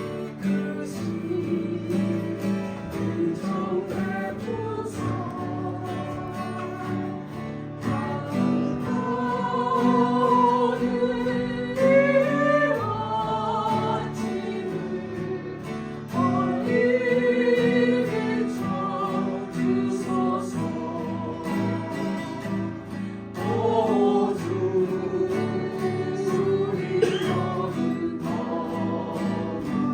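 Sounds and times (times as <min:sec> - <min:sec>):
acoustic guitars strummed: 0:00.0 - 0:29.9
small group singing a hymn: 0:00.0 - 0:29.9.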